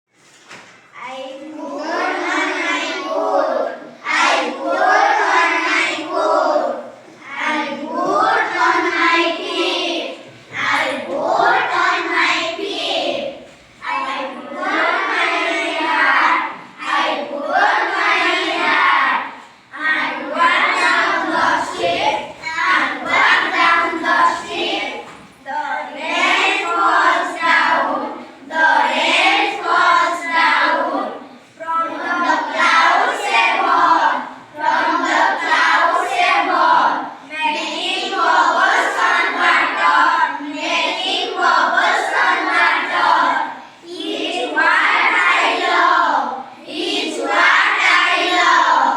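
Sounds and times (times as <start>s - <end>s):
children singing: 1.4s - 48.9s.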